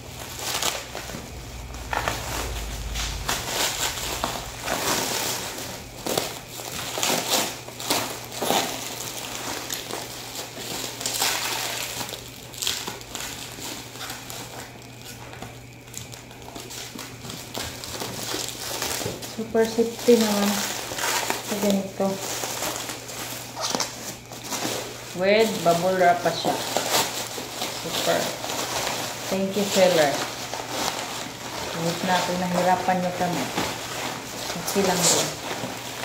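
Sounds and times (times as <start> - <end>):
bubble wrap crinkling: 0.0 - 36.0.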